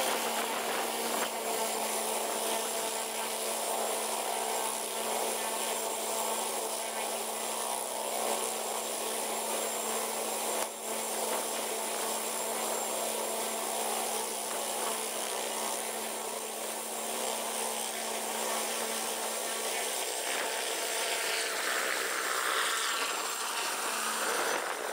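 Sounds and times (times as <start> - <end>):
helicopter droning: 0.0 - 24.9.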